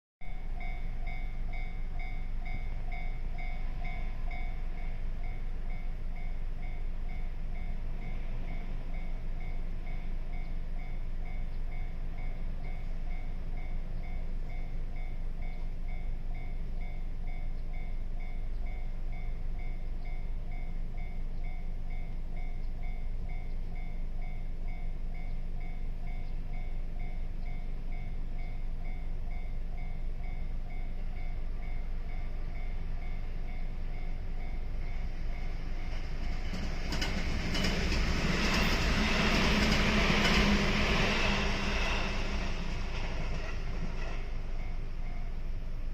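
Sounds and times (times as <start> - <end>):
electric train rumbling: 0.2 - 45.9
level-crossing warning bell dinging: 0.2 - 45.9.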